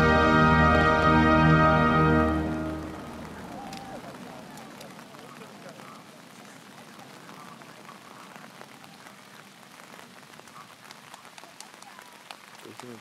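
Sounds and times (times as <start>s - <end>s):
firework sparks crackling: 0.0s - 13.0s.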